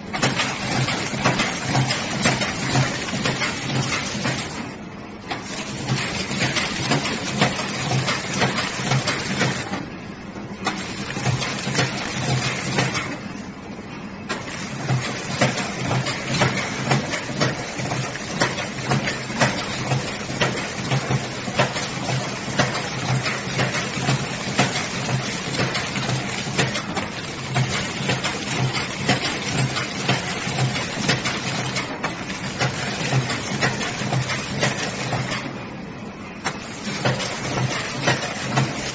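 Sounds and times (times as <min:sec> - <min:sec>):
wrapping machine clattering: 0:00.0 - 0:04.7, 0:05.3 - 0:09.8, 0:10.6 - 0:13.3, 0:14.3 - 0:35.5, 0:36.4 - 0:38.9.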